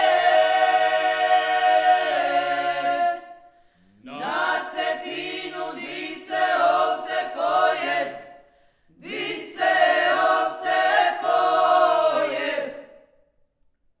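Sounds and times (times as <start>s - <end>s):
choir singing a cappella: 0.0s - 13.2s.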